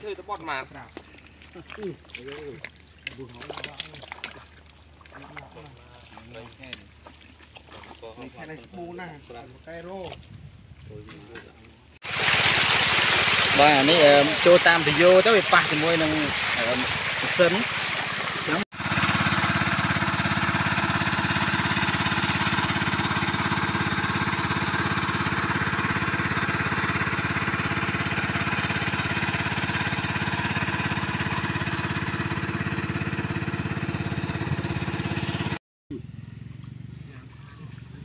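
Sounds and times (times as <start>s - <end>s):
engine-driven water pump running: 0.0s - 38.0s.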